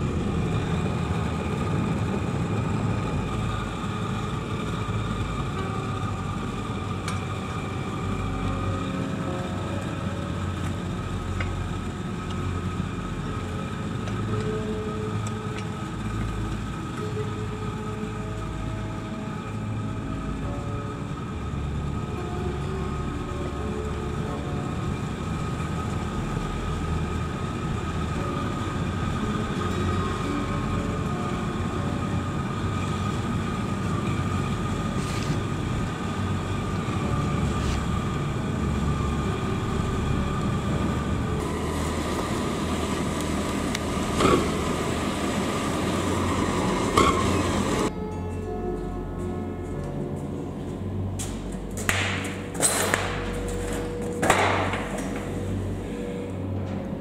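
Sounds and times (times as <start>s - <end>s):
faint constant whine: 0.0s - 57.0s
forge burner and blower drone: 0.0s - 57.0s.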